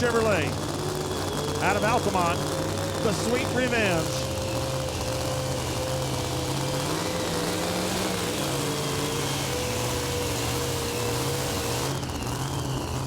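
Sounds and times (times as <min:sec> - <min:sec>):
pulling truck engine at full power: 0:00.0 - 0:13.0.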